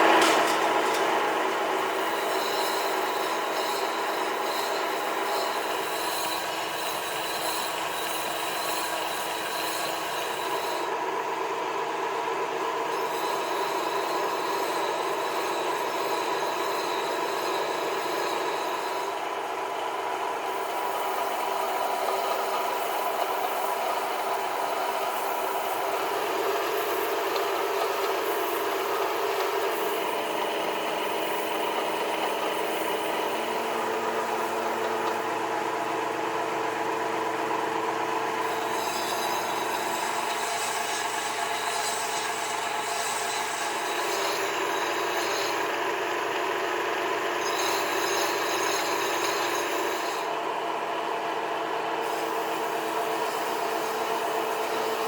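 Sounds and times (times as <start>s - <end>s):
machine running steadily: 0.0s - 55.0s.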